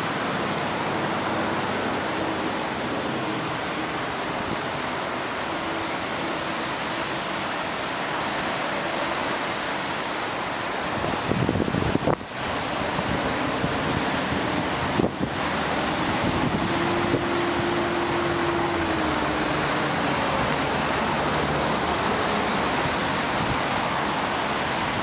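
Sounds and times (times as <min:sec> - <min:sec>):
water rushing: 0:00.0 - 0:25.0.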